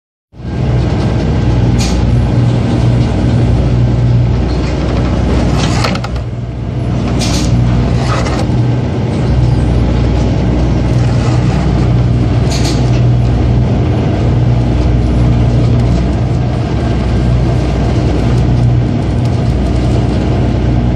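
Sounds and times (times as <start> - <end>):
boat engine droning: 0.4 - 20.9.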